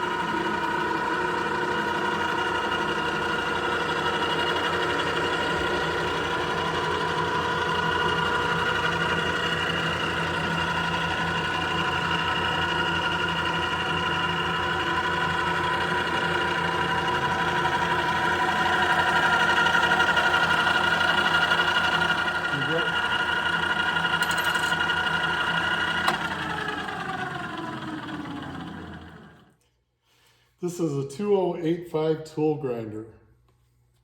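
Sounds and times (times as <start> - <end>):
tool grinder humming: 0.0 - 29.6.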